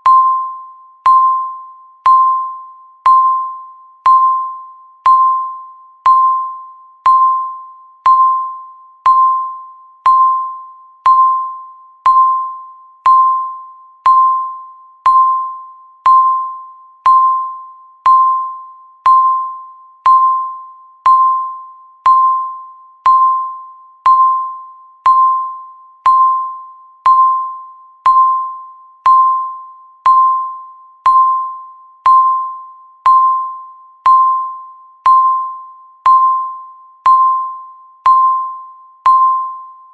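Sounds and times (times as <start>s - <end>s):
high electronic timer beeps: 0.0s - 39.9s.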